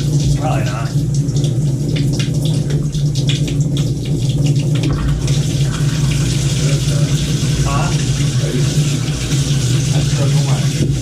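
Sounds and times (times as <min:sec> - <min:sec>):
shower water spraying: 0:00.0 - 0:11.0
steady low hum: 0:00.0 - 0:11.0
water spatter and clicks: 0:00.0 - 0:11.0.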